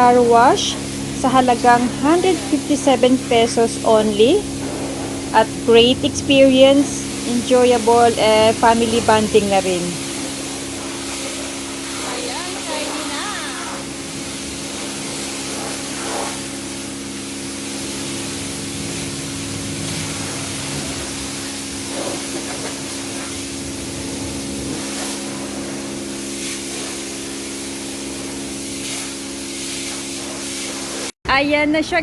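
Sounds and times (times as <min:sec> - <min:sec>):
high-pressure water spray hissing: 0:00.0 - 0:31.2
steady hum: 0:00.0 - 0:32.0.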